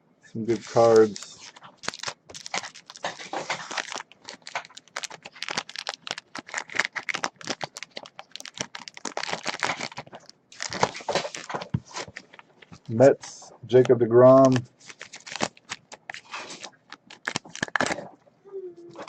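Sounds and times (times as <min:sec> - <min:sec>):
wrapper crinkling and tearing: 0:00.5 - 0:13.0, 0:14.3 - 0:18.2, 0:18.8 - 0:19.0.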